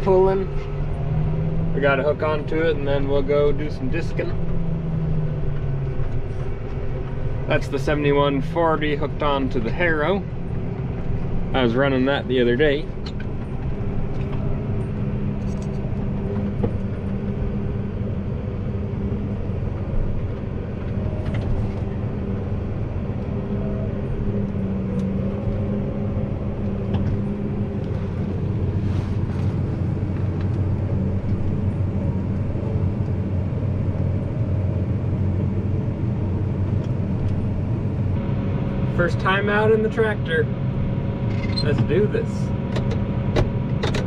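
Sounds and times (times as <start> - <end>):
tractor diesel engine droning: 0.0 - 44.0.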